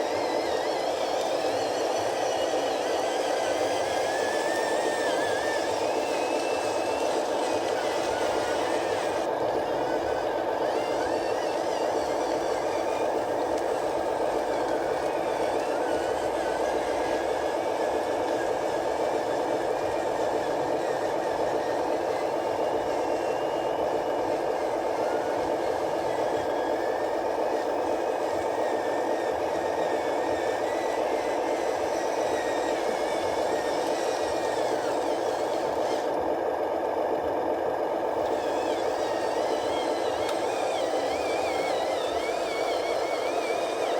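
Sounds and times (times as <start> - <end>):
faint wavering whine: 0.0 - 43.9
remote-control truck running: 0.0 - 43.9.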